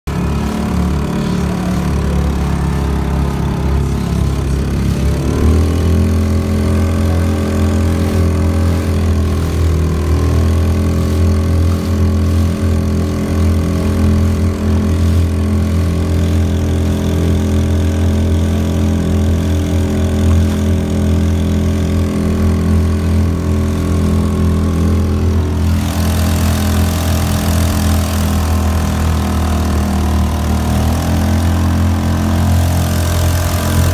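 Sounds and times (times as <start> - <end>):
outboard motor running: 0.0 - 33.9
rushing water from wake: 0.1 - 33.9.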